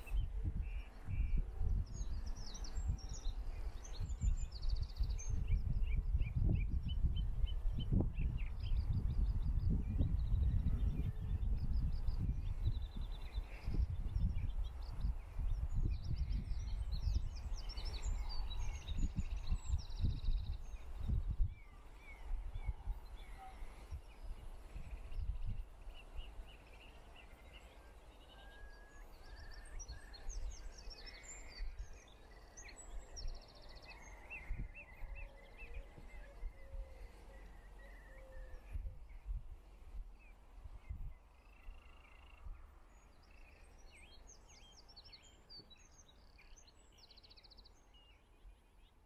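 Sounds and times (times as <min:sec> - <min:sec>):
wind buffeting microphone: 0:00.0 - 0:41.8
songbirds chirping and trilling: 0:00.0 - 0:49.0.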